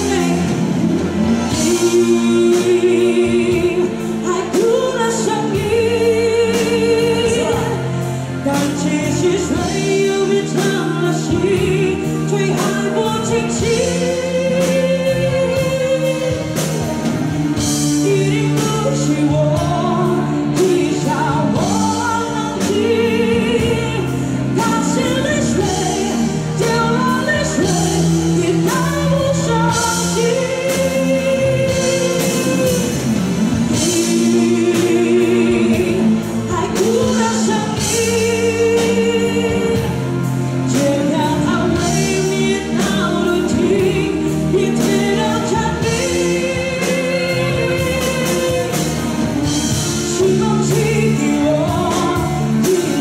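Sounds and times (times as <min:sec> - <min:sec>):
live band playing: 0:00.0 - 0:53.0
woman singing into a microphone: 0:00.0 - 0:53.0.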